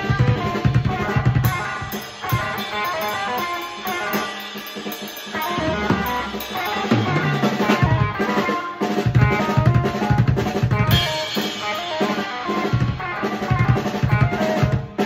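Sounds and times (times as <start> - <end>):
drum kit: 0.0 - 15.0
electric guitar picking notes: 0.0 - 15.0.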